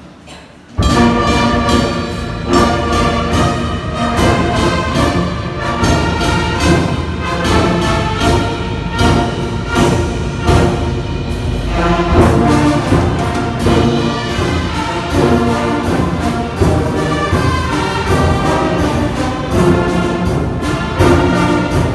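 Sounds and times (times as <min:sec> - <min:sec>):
brass band playing: 0:00.8 - 0:21.9.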